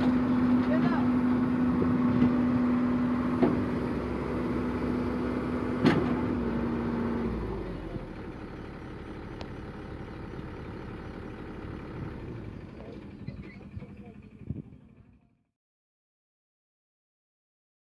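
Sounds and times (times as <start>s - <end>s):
excavator diesel engine running: 0.0s - 15.5s.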